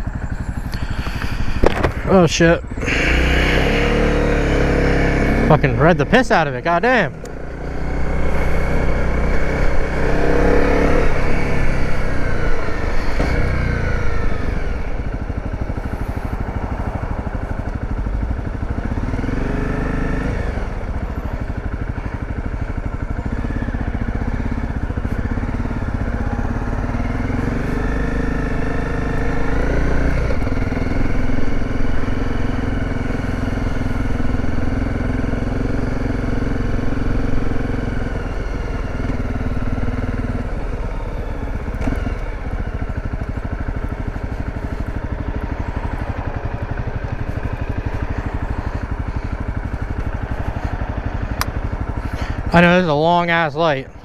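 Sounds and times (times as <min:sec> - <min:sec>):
dirt bike engine revving: 0:00.0 - 0:21.4, 0:23.2 - 0:54.0.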